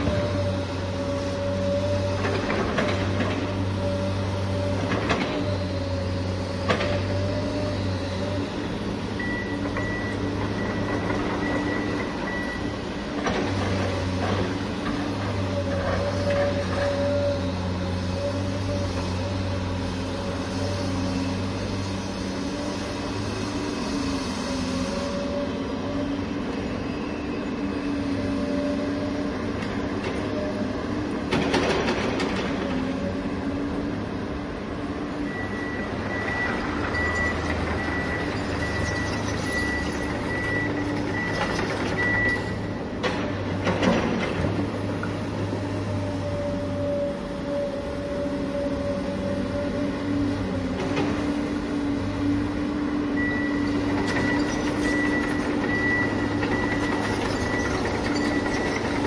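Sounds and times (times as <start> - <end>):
heavy vehicle engine drone: 0.0 - 59.0.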